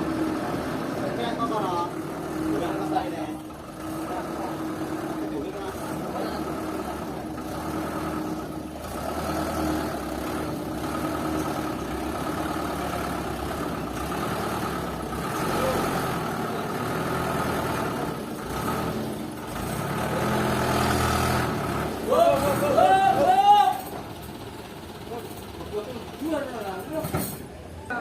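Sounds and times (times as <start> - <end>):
machinery engine running: 0.0 - 26.8.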